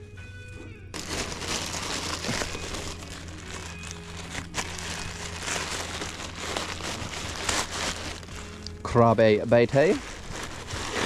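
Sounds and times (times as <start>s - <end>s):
crinkling crackling handling noise: 0.9s - 11.0s.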